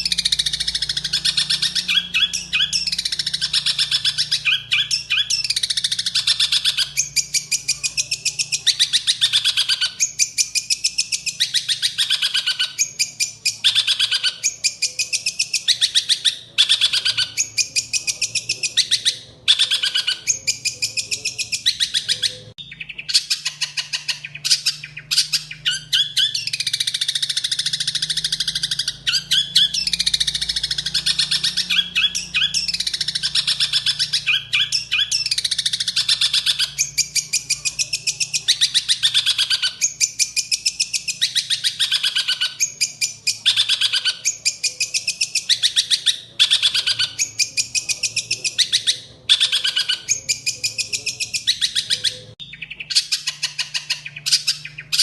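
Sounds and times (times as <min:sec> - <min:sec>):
songbird singing chattering song: 0:00.0 - 0:55.0.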